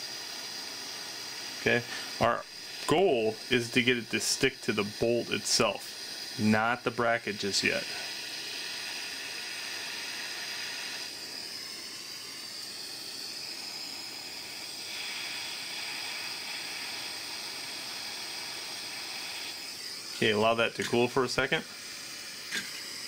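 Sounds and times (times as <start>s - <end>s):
gas torch hissing: 0.0s - 23.0s.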